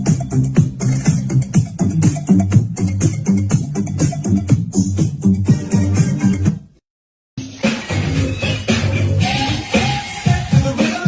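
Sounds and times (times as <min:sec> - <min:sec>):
music with steady beat: 0:00.0 - 0:06.8, 0:07.4 - 0:11.0.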